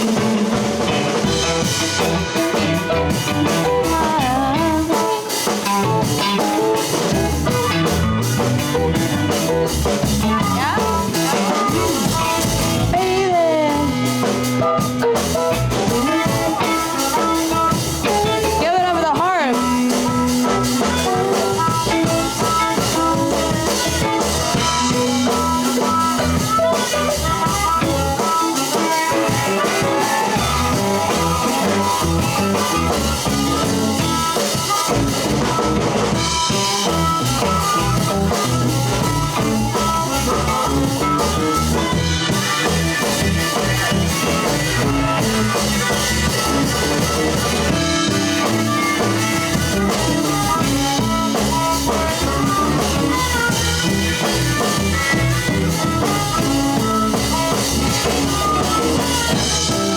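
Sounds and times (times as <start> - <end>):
blues band playing: 0.0 - 59.9.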